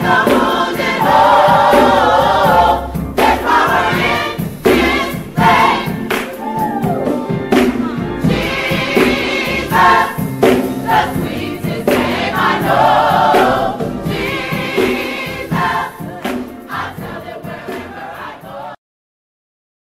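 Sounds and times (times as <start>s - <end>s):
choir singing gospel music: 0.0s - 18.8s.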